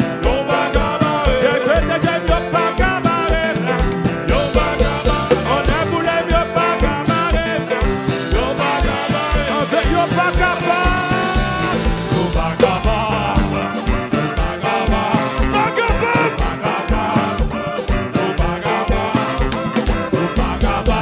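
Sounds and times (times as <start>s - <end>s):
live band playing: 0.0s - 21.0s
man singing lead vocal: 0.0s - 21.0s
steady bass drum beat: 0.0s - 21.0s.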